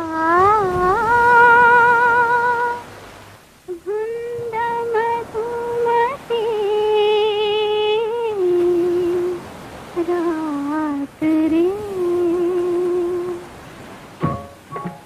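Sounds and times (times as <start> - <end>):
woman humming a slow melody: 0.0 - 2.8, 3.7 - 9.4, 10.0 - 13.5.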